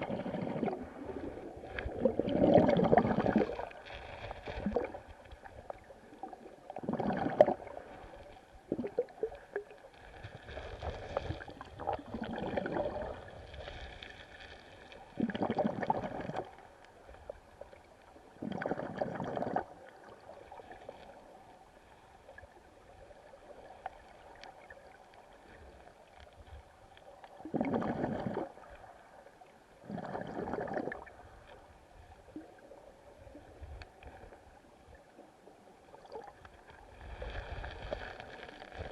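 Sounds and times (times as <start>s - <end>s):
muffled underwater river gurgling: 0.0s - 38.9s.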